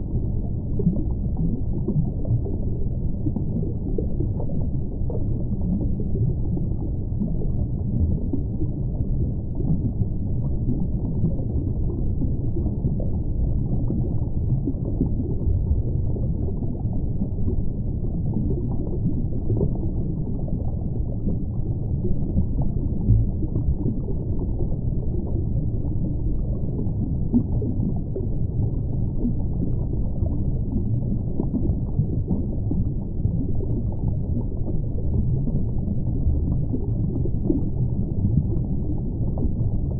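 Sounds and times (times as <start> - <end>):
muffled rumble of moving water: 0.0 - 39.9.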